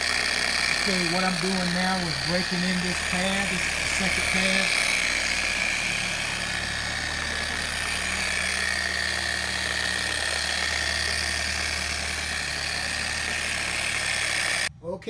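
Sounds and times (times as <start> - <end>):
polisher motor humming: 0.0 - 14.7.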